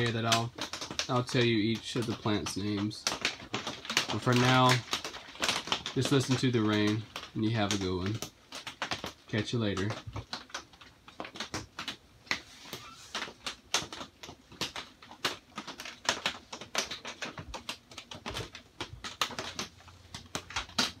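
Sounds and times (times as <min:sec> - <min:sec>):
rain on a plastic roof: 0:00.0 - 0:21.0.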